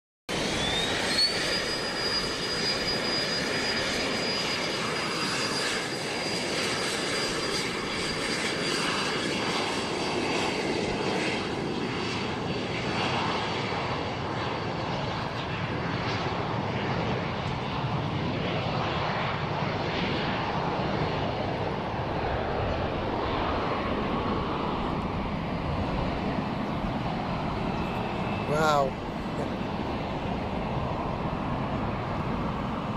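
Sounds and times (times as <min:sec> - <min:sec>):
plane engines at take-off power: 0:00.3 - 0:32.9.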